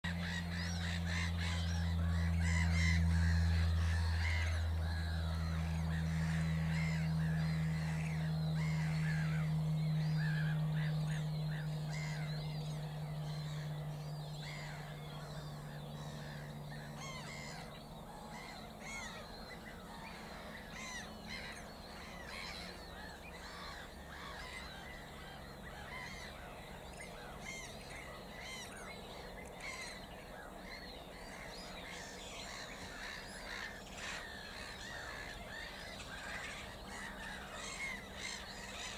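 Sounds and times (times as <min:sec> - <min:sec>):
gulls calling: 0:00.0 - 0:38.9
low steady hum: 0:00.0 - 0:38.9.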